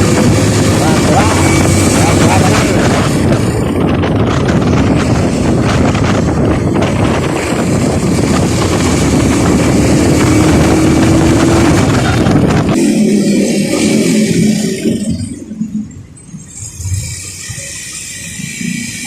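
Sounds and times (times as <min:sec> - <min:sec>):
vehicle engine running: 0:00.0 - 0:15.8
road noise: 0:00.0 - 0:19.0
wind noise on microphone: 0:00.0 - 0:19.0.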